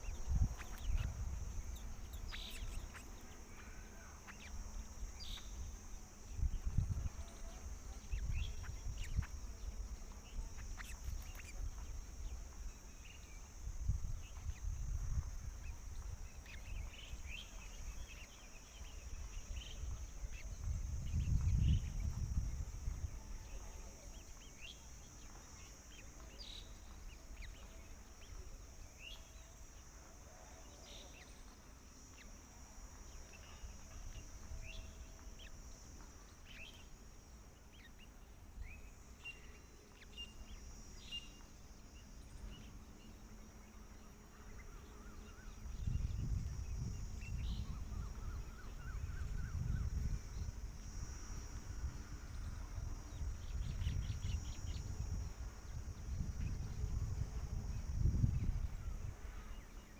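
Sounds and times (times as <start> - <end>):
birds chirping: 0.0 - 59.9
high-pitched hiss: 0.0 - 59.9.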